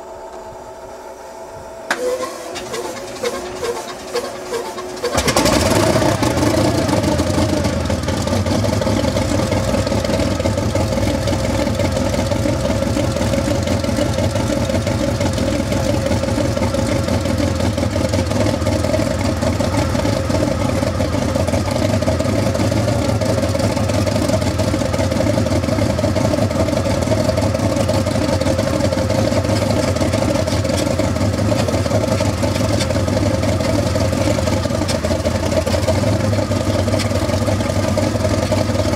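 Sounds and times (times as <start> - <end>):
radial engine idling: 0.0 - 38.9.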